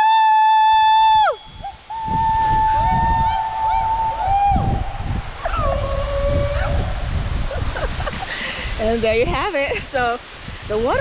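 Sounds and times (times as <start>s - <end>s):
rush of falling water: 0.2s - 11.0s.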